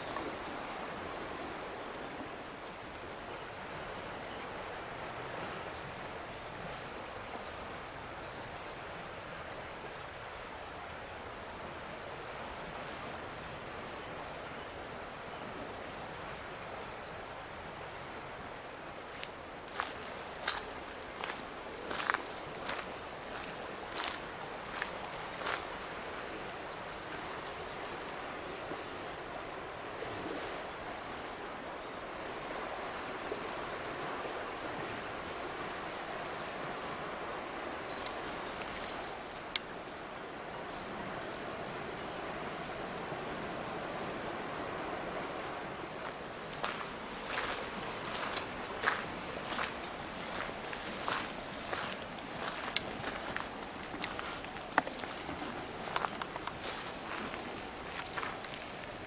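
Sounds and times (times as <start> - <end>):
outdoor background hiss: 0.0 - 59.0.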